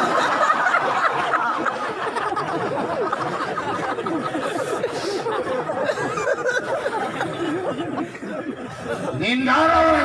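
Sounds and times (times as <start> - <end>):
crowd of men laughing: 0.0 - 10.0.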